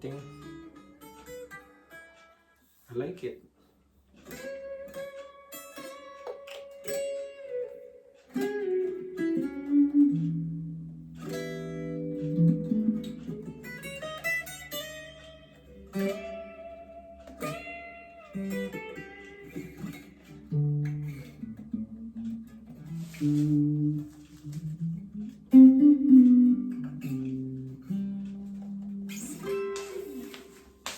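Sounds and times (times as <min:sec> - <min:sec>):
electric guitar notes: 0:04.3 - 0:30.9.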